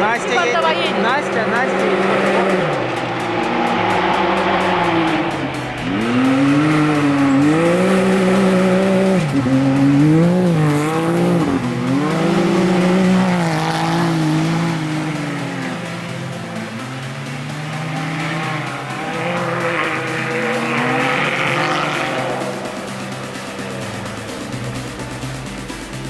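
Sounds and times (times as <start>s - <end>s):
engine revving hard: 0.0s - 26.0s.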